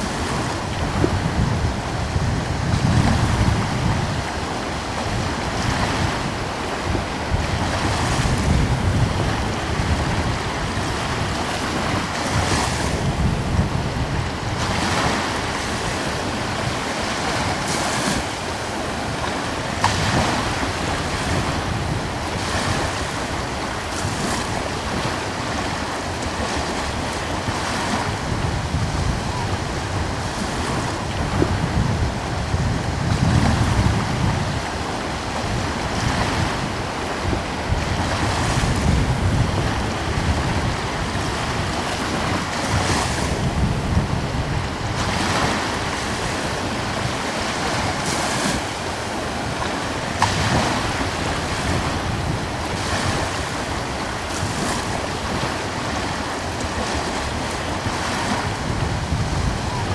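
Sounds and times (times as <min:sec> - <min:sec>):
gentle ocean waves washing in: 0:00.0 - 0:59.9
wind rumbling on microphone: 0:00.0 - 0:59.9.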